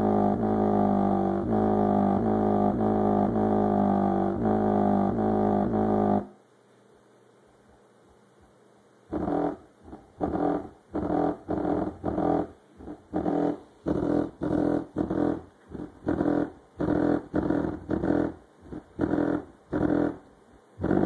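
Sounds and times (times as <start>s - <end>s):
buzzing subwoofer bass pulses: 0.0s - 6.4s, 9.1s - 20.2s, 20.8s - 21.0s.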